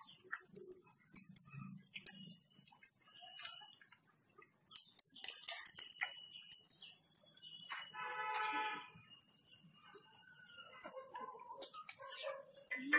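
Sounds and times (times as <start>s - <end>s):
scattered crackles and clicks: 0.0s - 12.9s.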